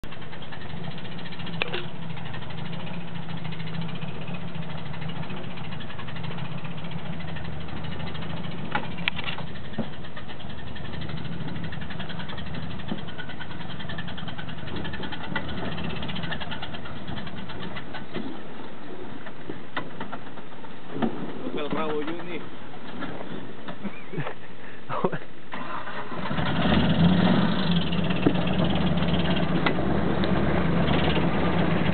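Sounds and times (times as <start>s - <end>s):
engine running at low revs: 0.0s - 24.4s, 25.0s - 31.9s.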